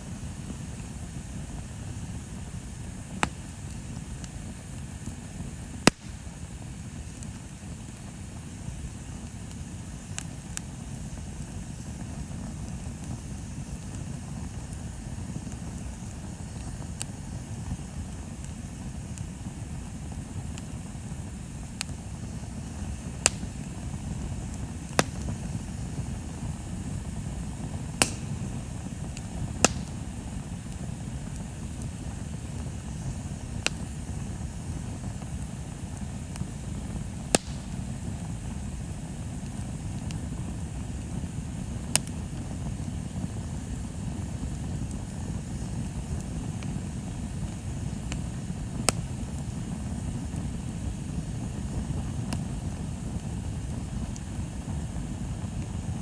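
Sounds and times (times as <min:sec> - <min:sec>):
bonfire low rumble: 0:00.0 - 0:56.0
burning wood crackling pops: 0:00.0 - 0:56.0.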